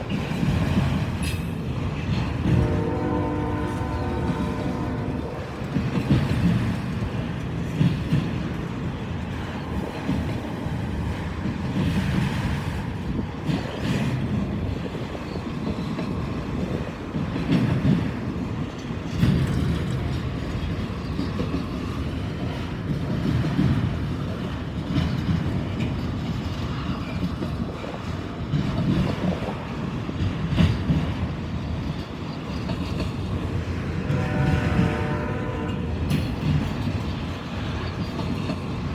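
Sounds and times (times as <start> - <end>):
freight train wheels rumbling on rail: 0.0 - 38.9
wheels clickety-clack: 0.0 - 38.9.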